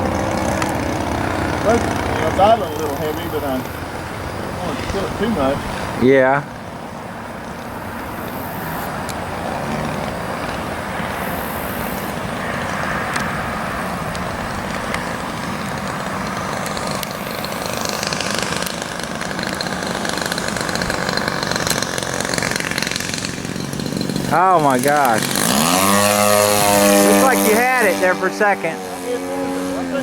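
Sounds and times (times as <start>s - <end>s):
model airplane engine idling: 0.0s - 5.8s, 6.4s - 30.0s.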